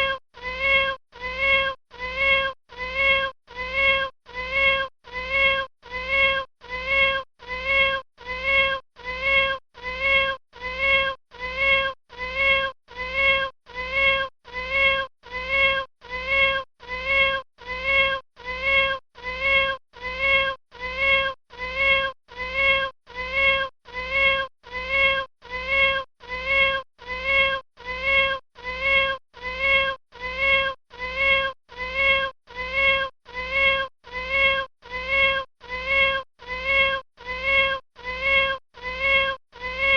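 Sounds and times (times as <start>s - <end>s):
kitten meowing: 0.0s - 39.9s.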